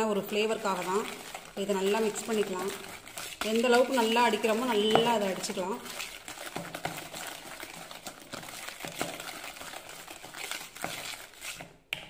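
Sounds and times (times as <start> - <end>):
whisk scraping plastic bowl: 0.0 - 12.0.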